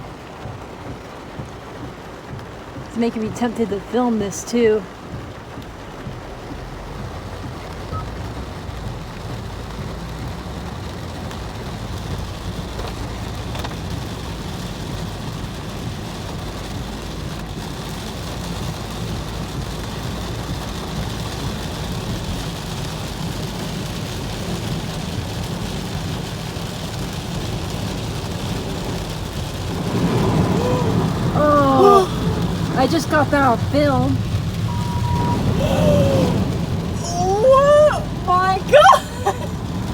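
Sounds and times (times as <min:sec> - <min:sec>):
car engine low rumble: 0:00.0 - 0:39.9
heavy rain and water hissing: 0:00.0 - 0:39.9.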